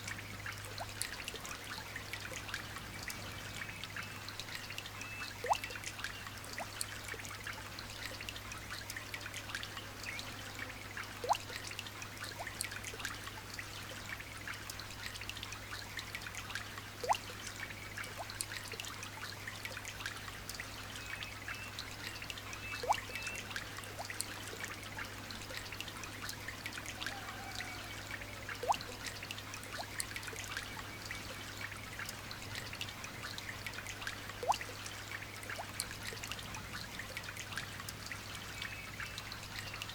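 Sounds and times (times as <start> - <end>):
light rain pattering: 0.0 - 39.9
trickling water: 0.0 - 39.9.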